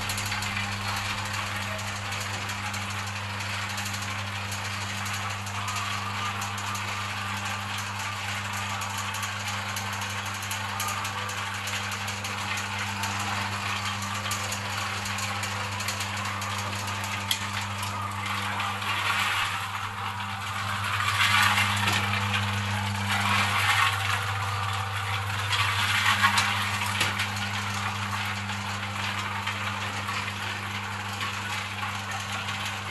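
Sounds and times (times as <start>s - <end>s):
electric motor hum: 0.0s - 32.9s
mixer rattling: 0.0s - 32.9s.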